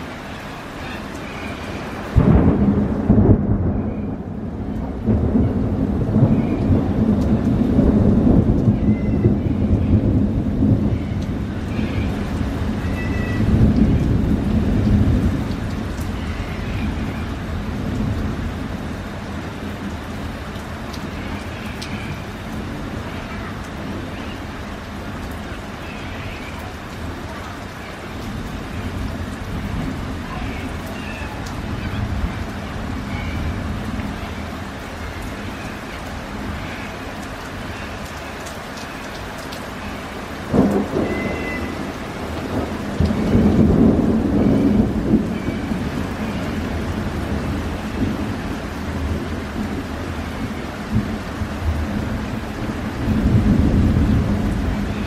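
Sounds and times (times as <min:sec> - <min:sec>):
steady rain falling: 0:00.0 - 0:55.0
thunderclap and rolling thunder: 0:01.7 - 0:25.5, 0:26.2 - 0:36.7, 0:40.2 - 0:55.0.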